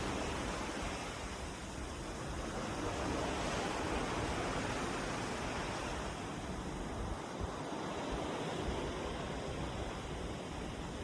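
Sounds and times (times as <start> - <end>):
open sea rushing: 0.0 - 11.0
wind: 0.0 - 11.0.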